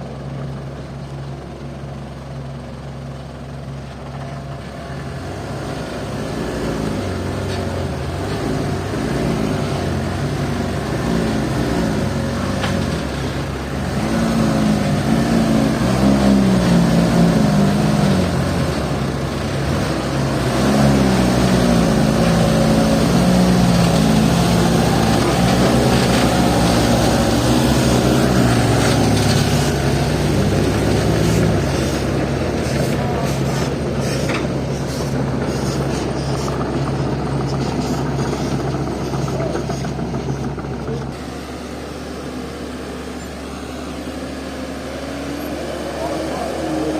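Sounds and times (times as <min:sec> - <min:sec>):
diesel engine revving: 0:00.0 - 0:46.9.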